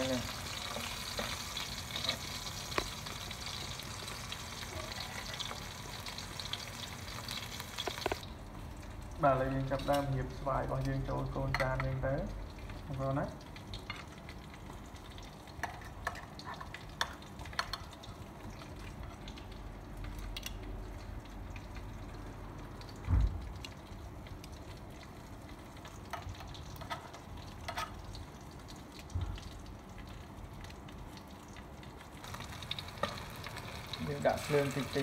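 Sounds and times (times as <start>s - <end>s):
oil sizzling in a pan: 0.0s - 20.0s, 20.8s - 35.0s.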